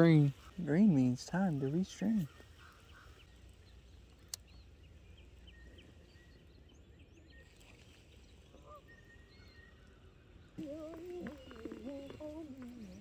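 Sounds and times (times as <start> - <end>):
birds chirping: 0.0 - 13.0
low wind rumble: 0.0 - 13.0.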